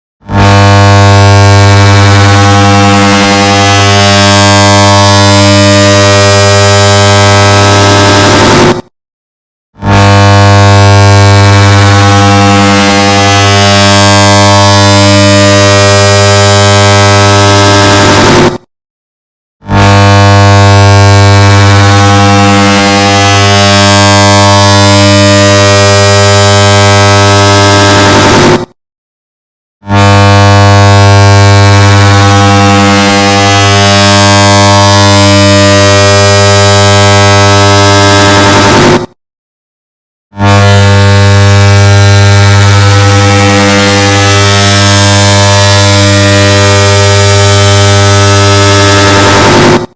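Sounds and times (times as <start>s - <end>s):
distorted buzzing drone: 0.2s - 8.9s, 9.8s - 18.7s, 19.6s - 28.8s, 29.8s - 39.2s, 40.3s - 49.9s.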